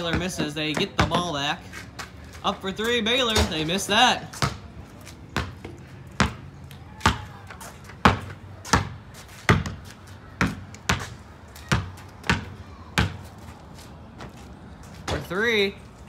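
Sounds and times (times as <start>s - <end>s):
basketball bouncing on concrete: 0.0s - 13.4s.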